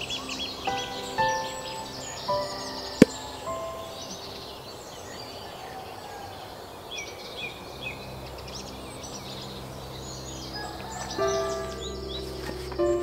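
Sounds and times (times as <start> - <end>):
soft low music tones: 0.0 - 13.0.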